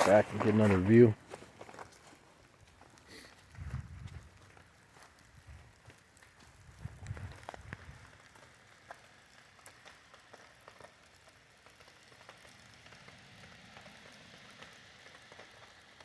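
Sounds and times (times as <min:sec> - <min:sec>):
faint steady rain: 0:00.0 - 0:16.0
raindrops ticking: 0:00.0 - 0:16.0.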